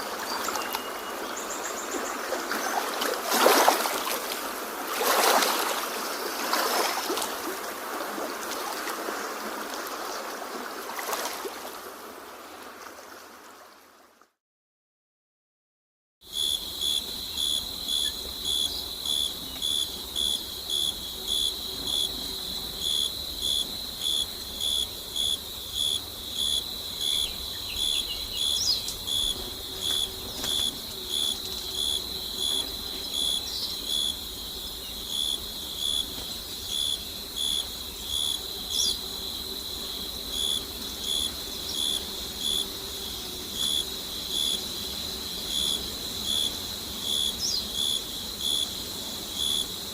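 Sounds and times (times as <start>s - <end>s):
crickets chirping: 0.0s - 8.6s, 16.2s - 49.9s
continuous high insect trill: 0.0s - 11.4s, 16.2s - 49.9s.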